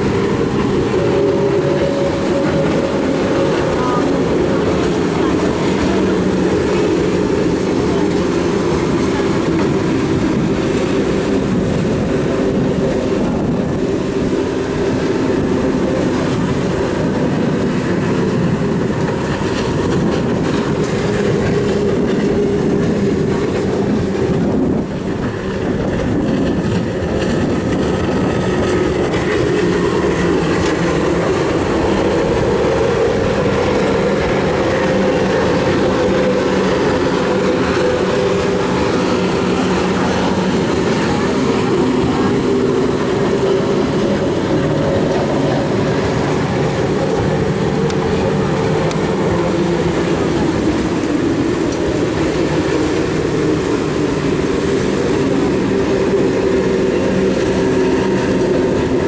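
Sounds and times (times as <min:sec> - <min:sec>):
powerboat engines droning: 0:00.0 - 0:59.0.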